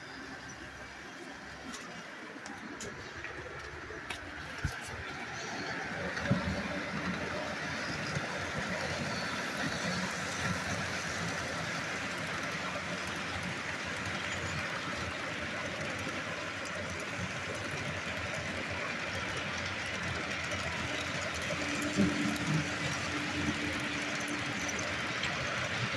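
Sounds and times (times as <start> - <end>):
model train wheels on track: 0.0 - 25.9.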